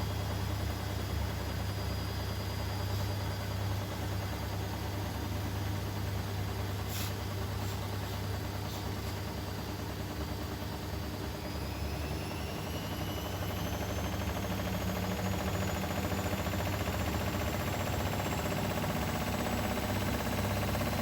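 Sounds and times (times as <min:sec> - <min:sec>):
washing machine spinning up: 0:00.0 - 0:21.0.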